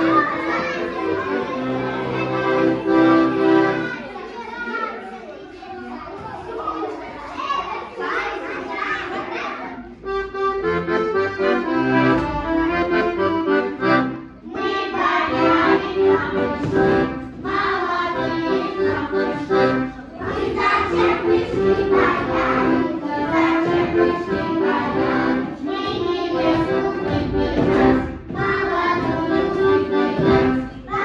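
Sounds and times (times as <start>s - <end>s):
accordion playing folk tune: 0.0s - 4.2s, 9.9s - 31.0s.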